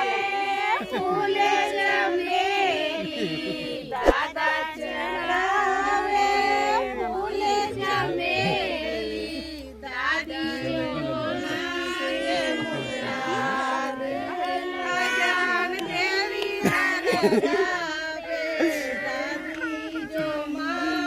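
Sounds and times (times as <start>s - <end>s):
high-pitched voices singing: 0.0s - 21.0s.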